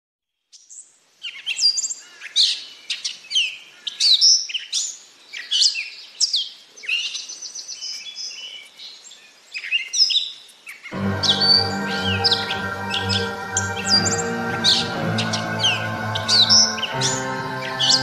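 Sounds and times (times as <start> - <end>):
songbird singing: 0.5 - 18.0.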